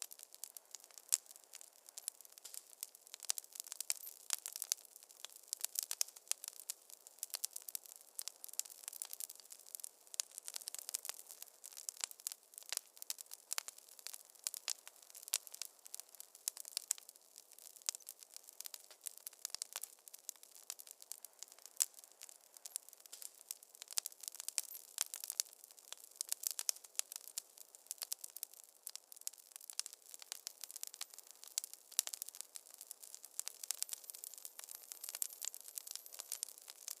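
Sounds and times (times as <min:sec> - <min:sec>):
faint steady hiss: 0:00.0 - 0:37.0
wood fire crackling: 0:00.0 - 0:37.0.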